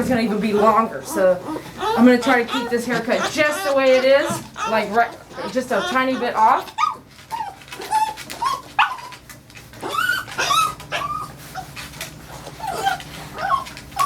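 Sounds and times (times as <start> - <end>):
dog whining and yelping: 0.0 - 14.0.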